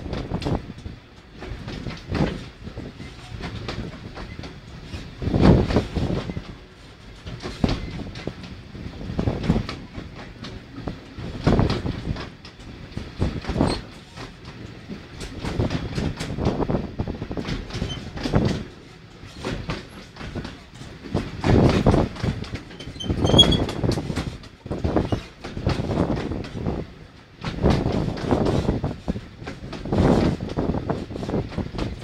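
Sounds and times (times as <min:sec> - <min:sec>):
train carriage rumbling: 0:00.0 - 0:32.0
train wheels clattering: 0:00.0 - 0:32.0.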